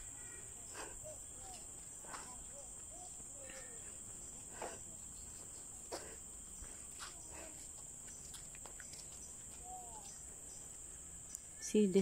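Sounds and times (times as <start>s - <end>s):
insect chorus chirring: 0.0s - 12.0s.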